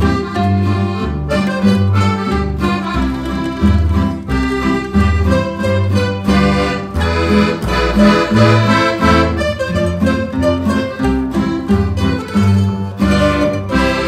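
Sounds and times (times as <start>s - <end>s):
instrumental folk tune: 0.0s - 14.0s.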